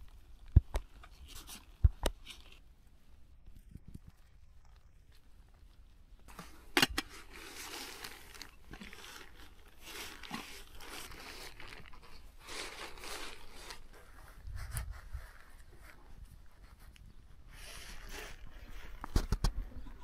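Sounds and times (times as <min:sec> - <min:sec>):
rustling and crunching handling: 0:00.0 - 0:20.0.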